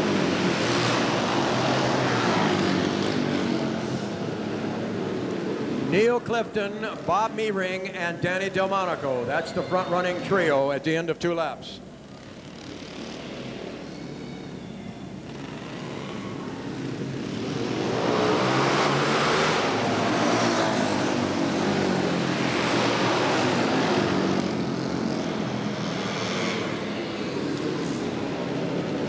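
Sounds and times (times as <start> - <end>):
racing motorcycle engines: 0.0 - 29.0.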